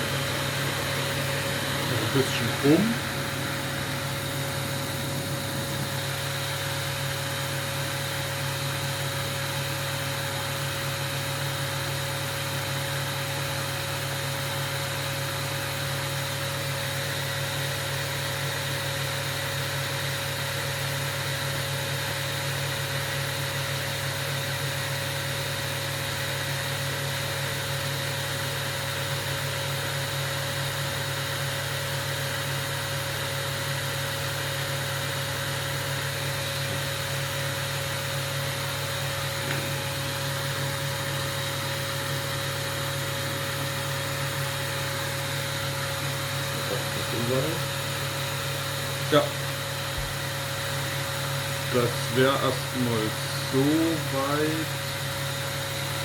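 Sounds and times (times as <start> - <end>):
mechanical hum with steady tone: 0.0 - 56.0.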